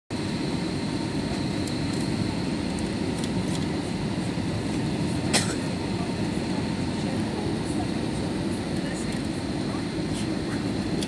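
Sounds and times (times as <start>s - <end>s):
airplane cabin engine roar: 0.1s - 11.0s.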